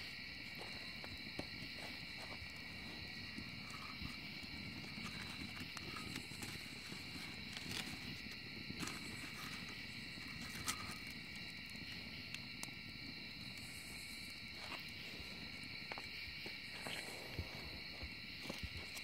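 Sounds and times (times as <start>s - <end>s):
fire popping: 0.0s - 19.0s
night insects droning: 0.0s - 19.0s
wood fire crackling: 0.0s - 19.0s.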